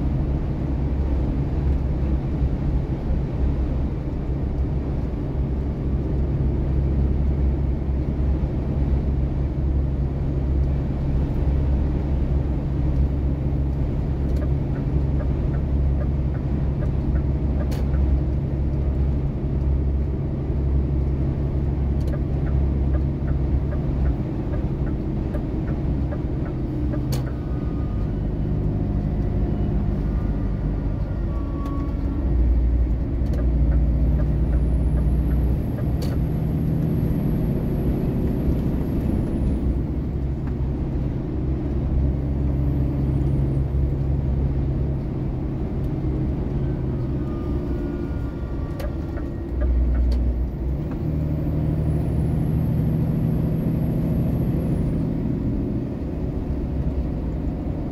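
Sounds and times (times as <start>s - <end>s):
vehicle engine and road drone: 0.0s - 57.9s.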